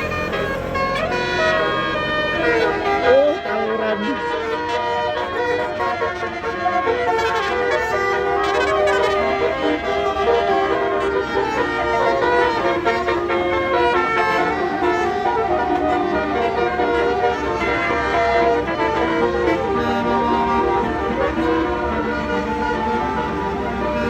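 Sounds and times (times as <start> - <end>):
multi-tone bus horn playing a tune: 0.0 - 24.0.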